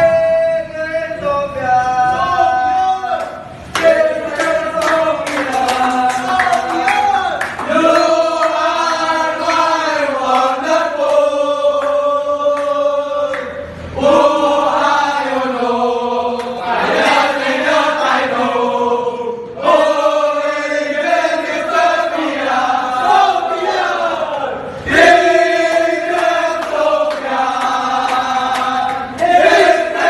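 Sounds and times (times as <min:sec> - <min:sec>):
group of voices chanting: 0:01.2 - 0:30.0.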